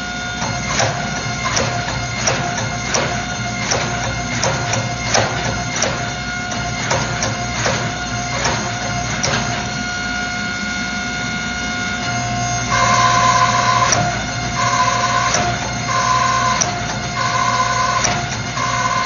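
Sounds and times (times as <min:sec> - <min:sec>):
hydraulic press whine and hum: 0:00.0 - 0:19.0.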